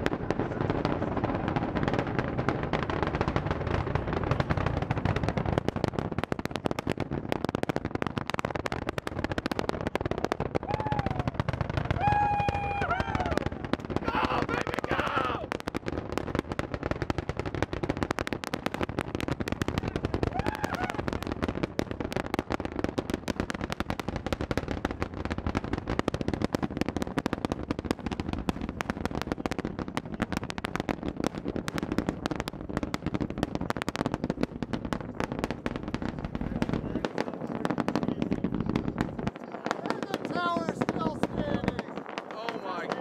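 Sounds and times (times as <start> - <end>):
distant rocket engine roar: 0.0 - 43.0.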